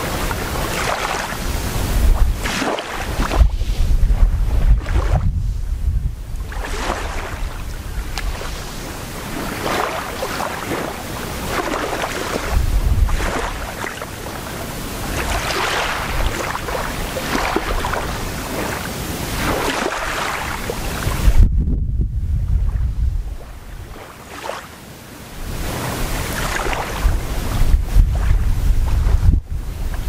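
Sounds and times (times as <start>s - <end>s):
small waves lapping on beach: 0.0s - 21.4s, 22.5s - 30.0s
wind gust on microphone: 0.0s - 24.6s, 25.4s - 30.0s.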